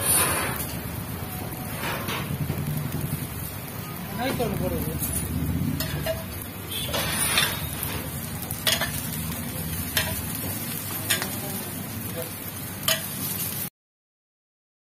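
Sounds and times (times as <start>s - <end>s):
flatbread sizzling in oil: 0.0s - 13.7s.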